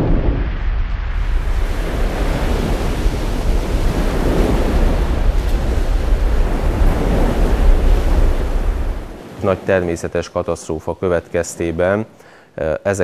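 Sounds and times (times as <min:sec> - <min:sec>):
sea waves: 0:00.0 - 0:13.0
wind: 0:00.0 - 0:13.0.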